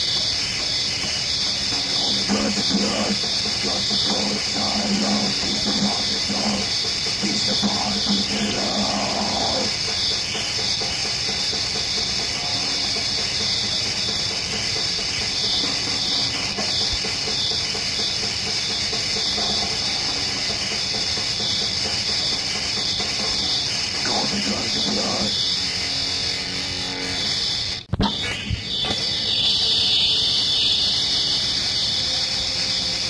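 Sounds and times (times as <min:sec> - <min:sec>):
distorted metal guitars and drums: 0:00.0 - 0:32.8.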